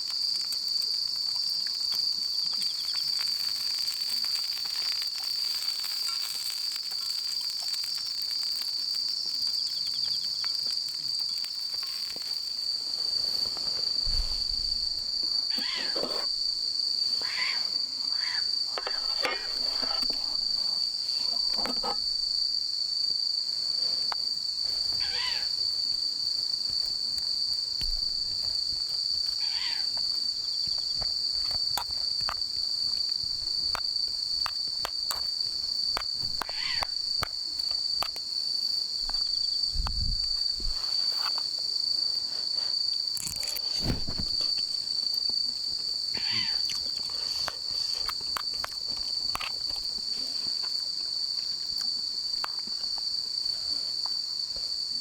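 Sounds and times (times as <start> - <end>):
crickets chirping chorus: 0.0 - 55.0.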